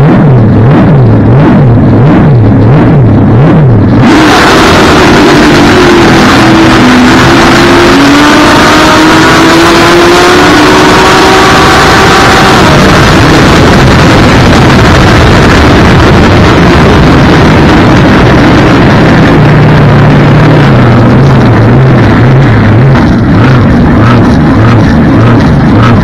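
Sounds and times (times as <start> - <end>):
boat engine roaring: 0.0 - 26.0
rushing wind and water: 3.8 - 26.0.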